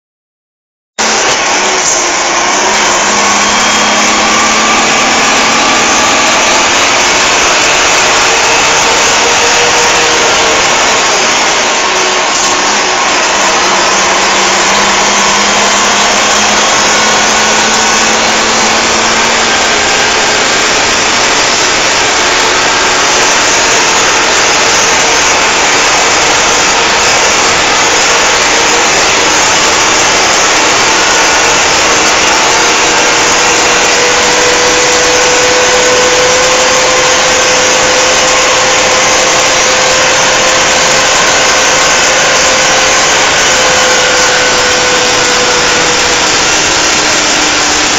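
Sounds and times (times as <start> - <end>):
truck diesel engine drone: 1.0 - 47.9
faint rising whine: 1.4 - 47.9.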